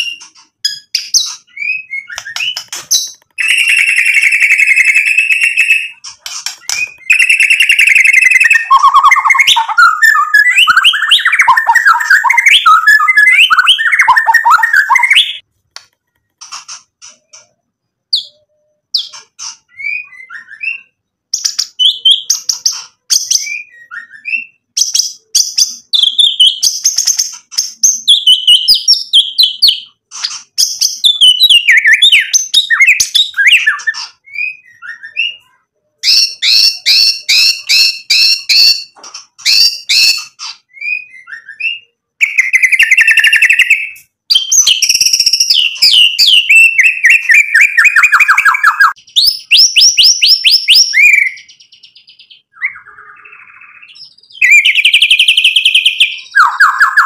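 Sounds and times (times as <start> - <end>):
bird singing: 0.0 - 15.4, 16.2 - 57.0.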